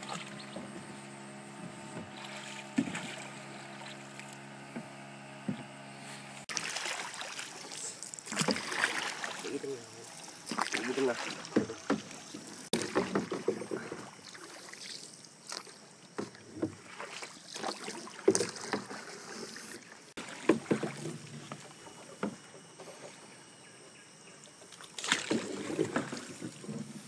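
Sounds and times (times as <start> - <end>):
water dripping and lapping: 0.0 - 0.9, 1.6 - 4.9, 6.4 - 23.2, 24.6 - 27.0
paddle splashing in water: 0.0 - 23.2, 24.7 - 27.0.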